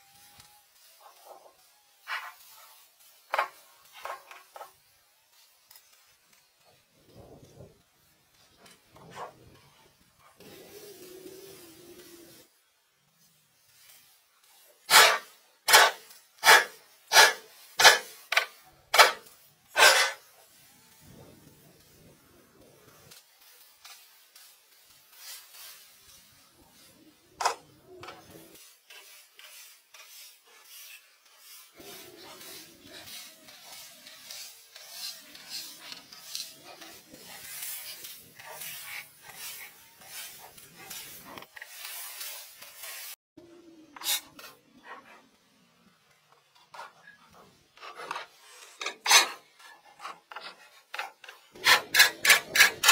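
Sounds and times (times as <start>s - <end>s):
broom sweeping leaves on wood: 0.0s - 9.8s, 10.4s - 43.2s, 46.7s - 52.9s.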